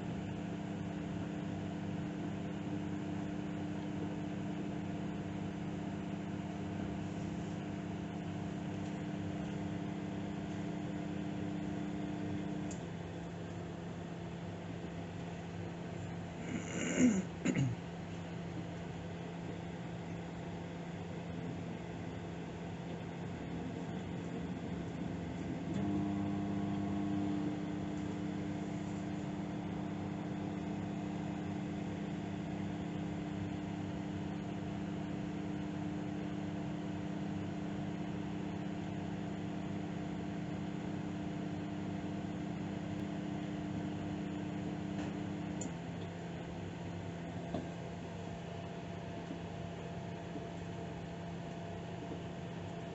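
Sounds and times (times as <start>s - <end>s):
deep microwave buzz: 0.0s - 52.9s
microwave oven hum: 0.0s - 52.9s.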